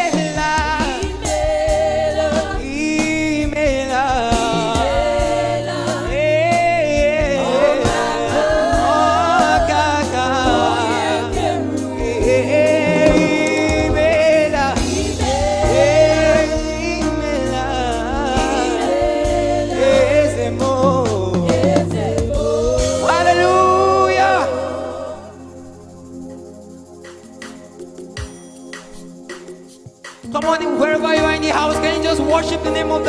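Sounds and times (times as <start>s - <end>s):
steady beat: 0.0s - 25.1s, 26.2s - 33.0s
person singing: 0.0s - 25.6s, 30.4s - 33.0s
bass: 0.0s - 28.3s, 30.2s - 33.0s
keyboard chords: 0.0s - 33.0s.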